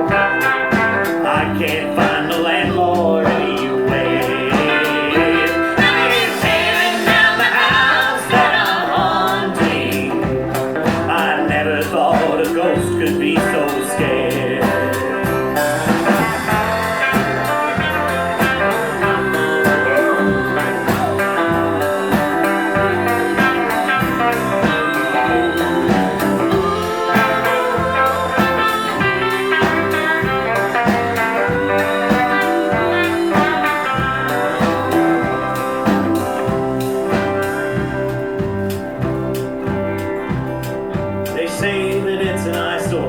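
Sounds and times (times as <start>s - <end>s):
band playing blues: 0.0s - 43.0s
guitar lines: 0.0s - 43.0s.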